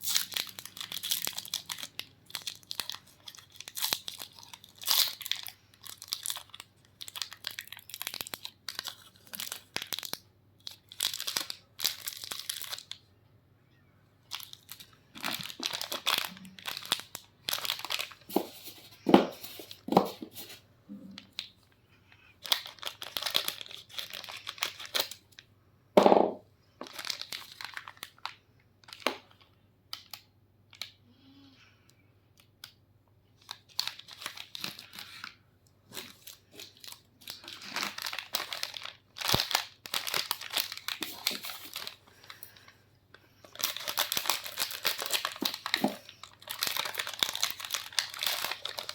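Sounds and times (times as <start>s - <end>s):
plastic wrappers crinkling and tearing: 0.0s - 13.0s, 14.2s - 25.5s, 26.8s - 30.9s, 33.4s - 48.9s.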